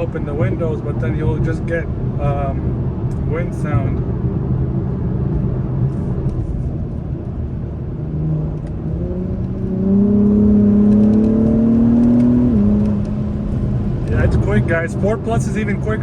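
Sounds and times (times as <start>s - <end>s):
car engine accelerating: 0.0s - 16.0s
road rumble: 0.0s - 16.0s.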